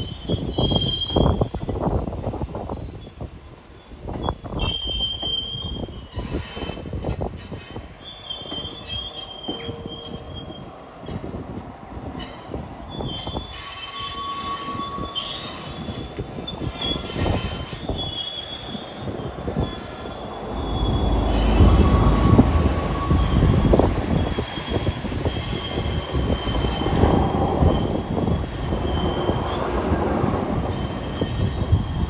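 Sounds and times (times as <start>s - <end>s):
low train rumble: 0.0s - 32.0s
train wheels squealing on rails: 0.0s - 32.0s.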